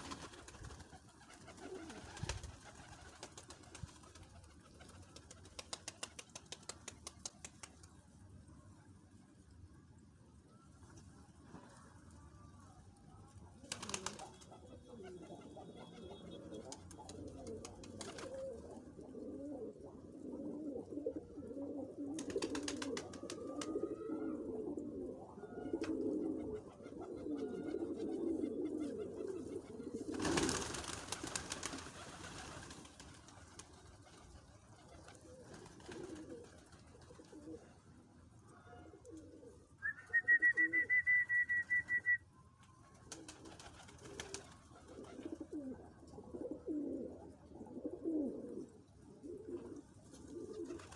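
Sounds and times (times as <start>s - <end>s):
doves cooing: 0.0s - 6.2s, 13.6s - 37.9s, 38.5s - 42.2s, 42.9s - 50.9s.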